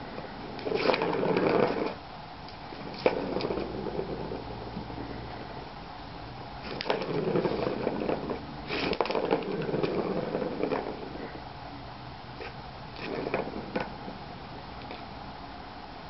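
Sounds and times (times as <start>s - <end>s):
ball rattling along plastic track: 0.0s - 5.7s, 6.6s - 11.4s, 12.4s - 15.0s.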